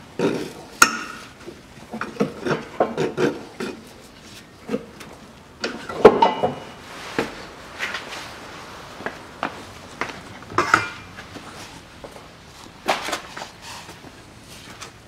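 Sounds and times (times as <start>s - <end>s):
metal exhaust parts knocking and scraping: 0.0s - 15.0s.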